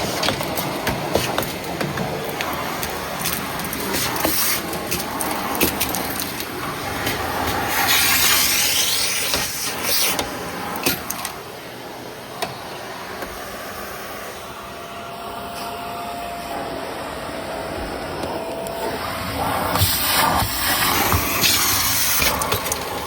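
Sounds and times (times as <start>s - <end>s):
vacuum cleaner motor: 0.0s - 23.0s.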